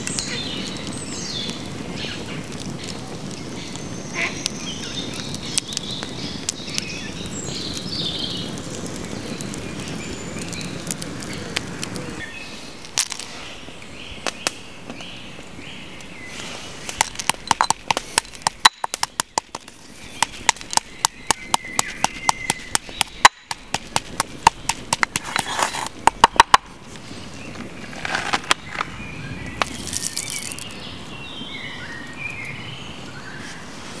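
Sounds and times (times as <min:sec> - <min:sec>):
birds calling: 0:00.0 - 0:34.0
low rush of flames: 0:00.0 - 0:34.0
wood fire crackling and popping: 0:00.0 - 0:34.0.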